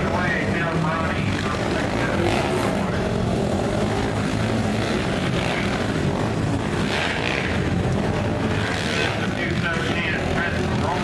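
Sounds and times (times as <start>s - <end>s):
quad engines droning: 0.0s - 11.0s.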